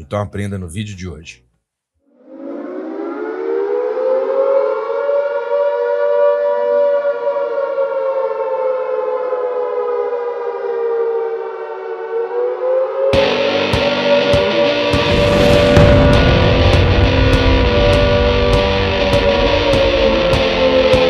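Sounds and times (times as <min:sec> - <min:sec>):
air-raid siren wailing: 0:02.2 - 0:21.0.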